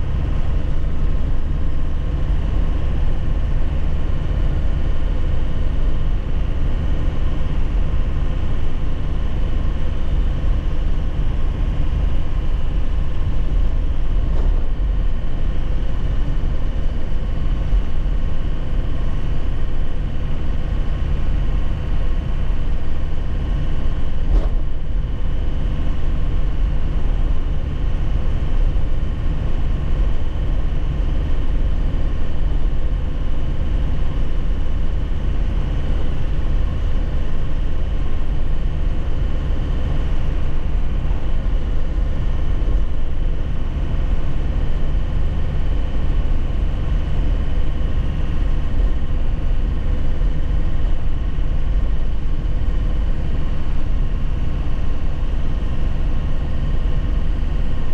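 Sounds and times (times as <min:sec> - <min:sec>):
deep road rumble: 0:00.0 - 0:57.9
truck diesel engine running: 0:00.0 - 0:57.9.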